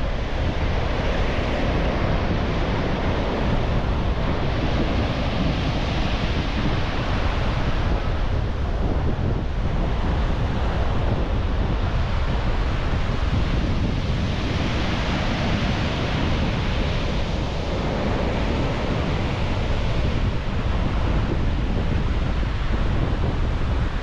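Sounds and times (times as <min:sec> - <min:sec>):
steady rushing noise: 0:00.0 - 0:24.0
wind buffeting microphone: 0:00.0 - 0:24.0.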